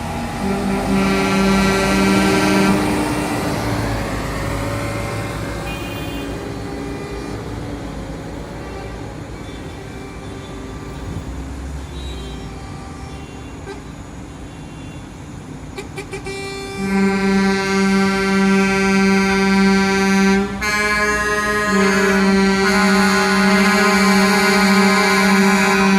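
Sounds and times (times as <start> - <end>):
truck air horn blast: 0.0 - 4.0, 4.8 - 7.6, 8.6 - 11.3, 11.9 - 15.1, 15.8 - 25.9
truck engines running: 0.0 - 25.9.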